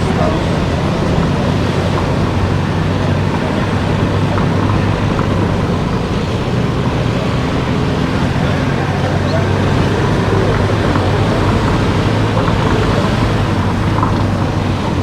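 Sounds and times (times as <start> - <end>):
car engine hum: 0.0 - 15.0
tyre and road noise: 0.0 - 15.0.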